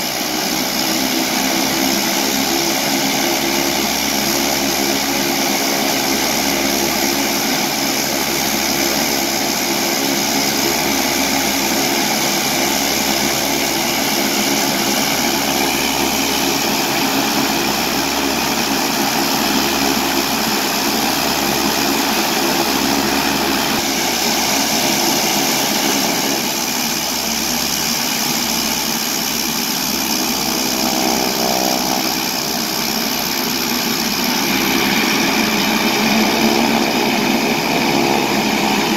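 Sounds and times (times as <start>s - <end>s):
turboprop engines idling: 0.0s - 38.9s.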